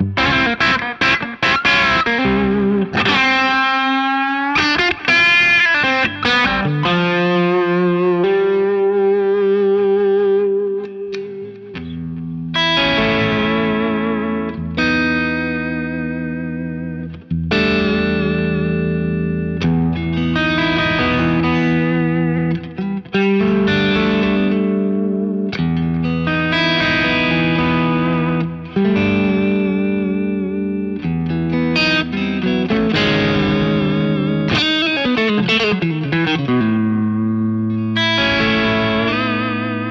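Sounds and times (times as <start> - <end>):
electric guitar chords: 0.0 - 39.9.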